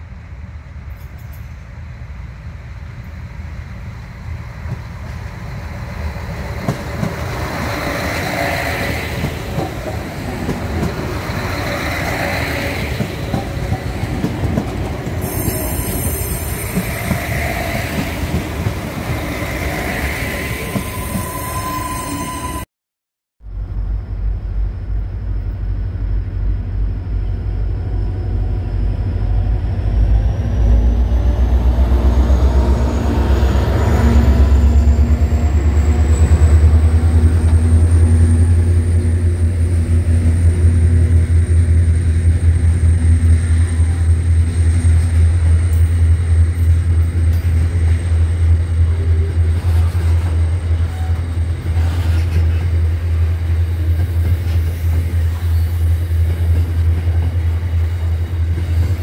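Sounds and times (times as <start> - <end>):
freight train rumbling past: 0.0 - 22.7, 23.4 - 59.0.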